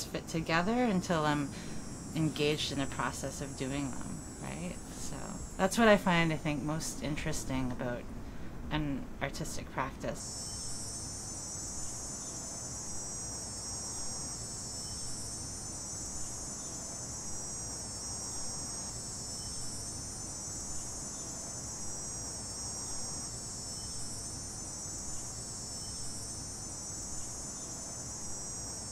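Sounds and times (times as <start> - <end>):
crickets trilling: 0.1 - 8.0, 8.8 - 28.9.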